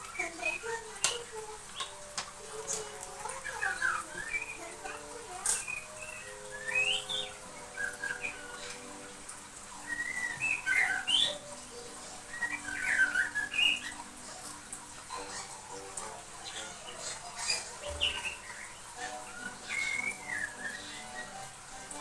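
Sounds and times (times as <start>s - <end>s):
young bird warbling and whistling: 0.0s - 9.1s, 9.8s - 14.1s, 16.4s - 22.0s.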